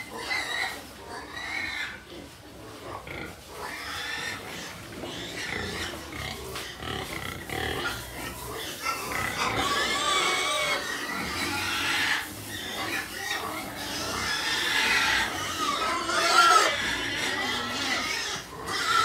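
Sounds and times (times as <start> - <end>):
pigs calling: 0.0 - 19.0.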